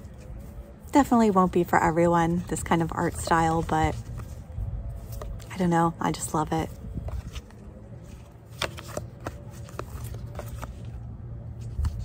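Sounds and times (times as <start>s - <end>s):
low background rumble: 0.0s - 12.0s
cards clicking and rustling: 2.3s - 12.0s.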